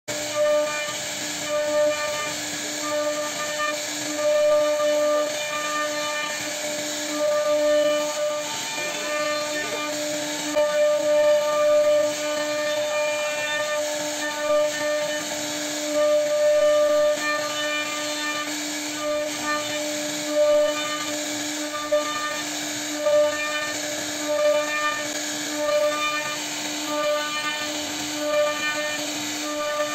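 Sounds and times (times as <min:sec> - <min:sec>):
hissing cutting noise: 0:00.1 - 0:29.9
router spindle high whine: 0:00.1 - 0:29.9.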